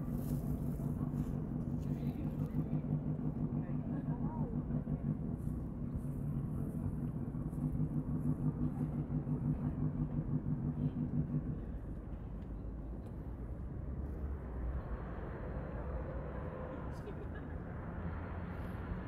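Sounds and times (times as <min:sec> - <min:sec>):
low outdoor rumble: 0:00.0 - 0:19.0
low pulsing motor hum: 0:00.0 - 0:19.0.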